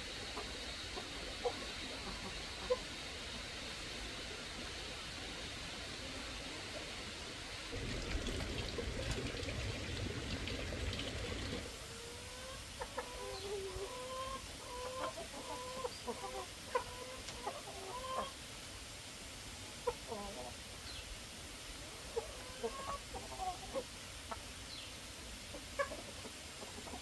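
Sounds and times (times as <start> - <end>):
chickens clucking: 0.0 - 18.4, 19.8 - 21.0, 21.8 - 27.0.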